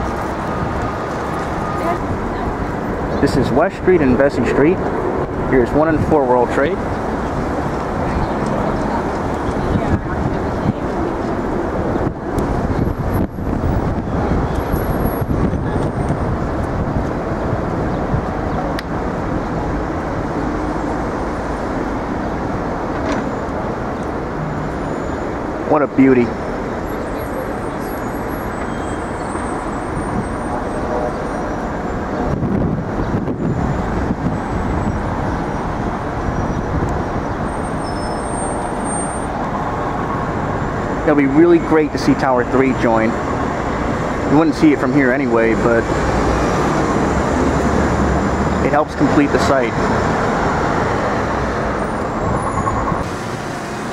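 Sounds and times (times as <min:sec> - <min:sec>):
cars passing on street: 0:00.0 - 0:53.9.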